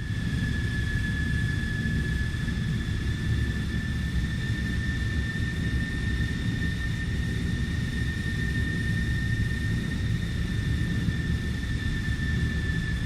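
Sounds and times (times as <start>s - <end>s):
airplane engines rumbling: 0.0s - 13.0s.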